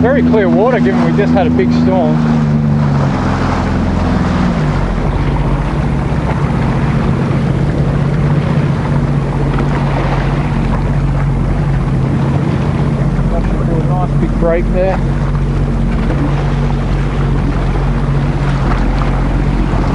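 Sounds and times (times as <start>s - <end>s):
jet ski engine running: 0.0s - 19.9s
rushing water: 0.0s - 19.9s.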